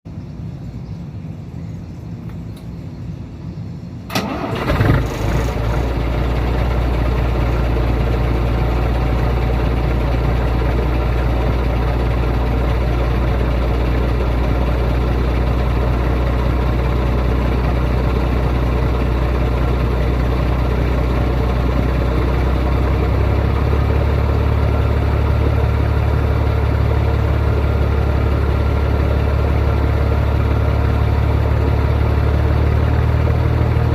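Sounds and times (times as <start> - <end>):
diesel engine cranking and idling: 4.0 - 33.9.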